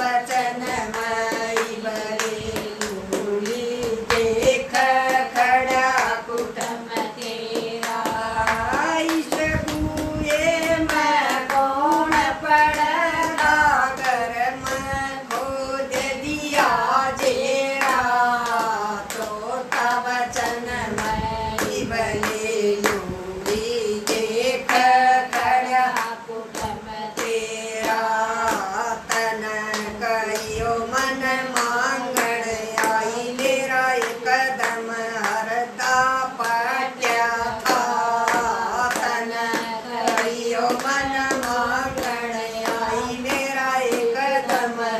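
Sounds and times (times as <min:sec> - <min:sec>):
rhythmic hand claps: 0:00.0 - 0:44.9
women singing folk song: 0:00.0 - 0:44.9.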